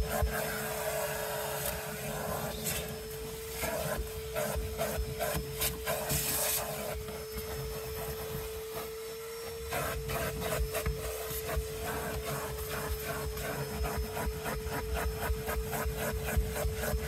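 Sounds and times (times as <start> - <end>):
brush scrubbing: 0.0 - 8.9, 9.7 - 17.0
steady motor whine: 0.0 - 17.0.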